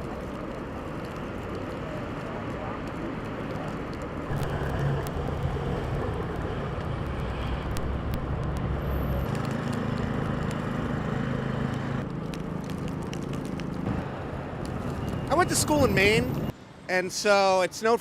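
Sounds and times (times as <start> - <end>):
vehicle engine humming: 0.0 - 16.5
street noise: 0.0 - 18.0.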